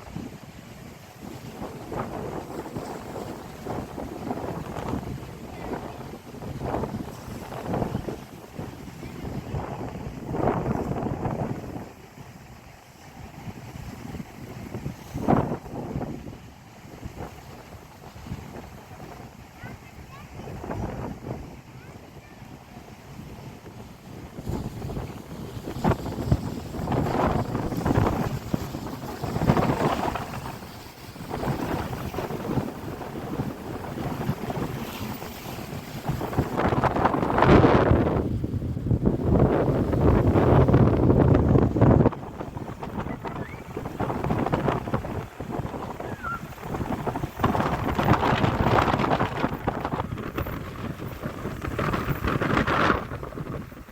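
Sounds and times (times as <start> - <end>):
surf washing in: 0.0 - 53.9
wind buffeting microphone: 0.0 - 53.9.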